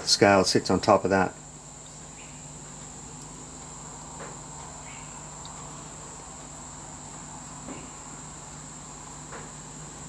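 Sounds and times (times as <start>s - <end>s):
high-pitched whine: 0.0s - 10.0s.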